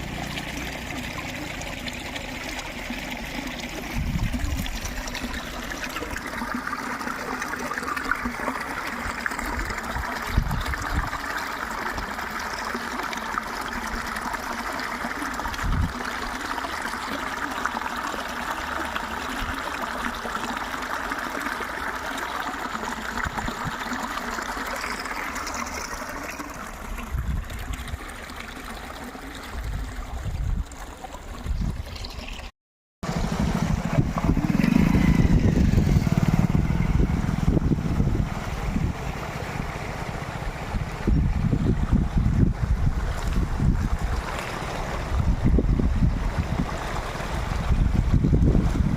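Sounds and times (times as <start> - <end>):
water trickling: 0.0 - 32.5, 33.1 - 48.9.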